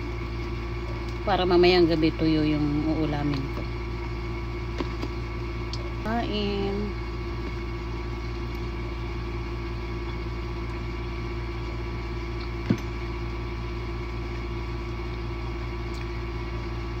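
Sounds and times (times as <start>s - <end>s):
appliance machine hum: 0.0s - 17.0s.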